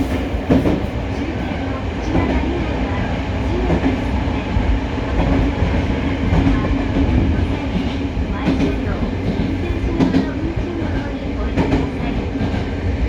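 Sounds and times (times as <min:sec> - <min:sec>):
rail-joint clacks: 0:00.0 - 0:13.0
wheels rumbling on rail: 0:00.0 - 0:13.0.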